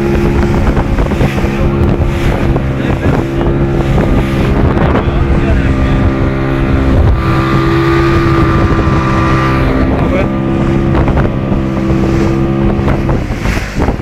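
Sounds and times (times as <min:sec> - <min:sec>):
boat motor running: 0:00.0 - 0:14.0
hull knocking through waves: 0:00.0 - 0:14.0
wind on microphone: 0:00.0 - 0:14.0.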